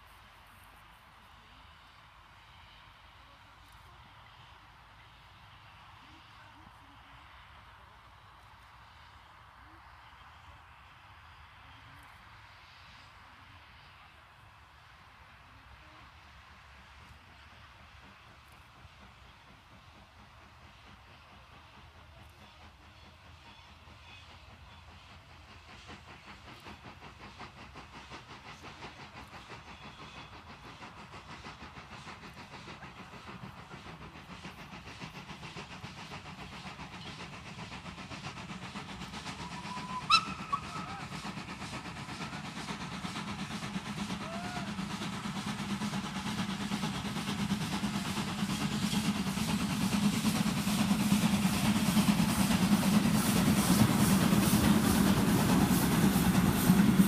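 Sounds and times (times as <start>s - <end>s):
steam locomotive exhaust beating: 0.0s - 57.0s.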